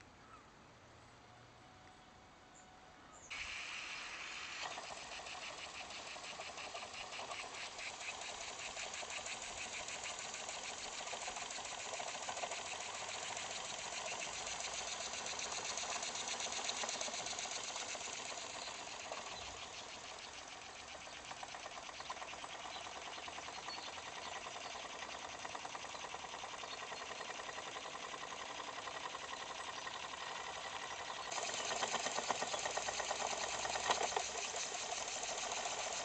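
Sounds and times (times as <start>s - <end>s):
toy steam engine chuffing: 3.3s - 36.0s.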